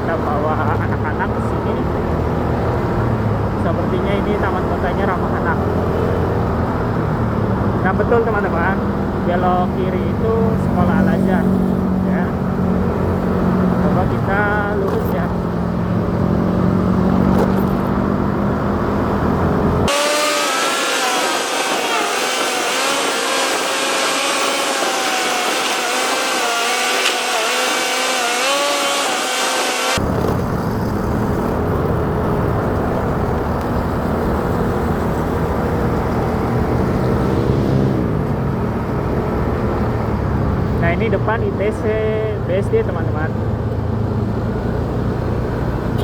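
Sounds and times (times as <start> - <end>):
motorcycle engine and wind rumble: 0.0 - 46.0.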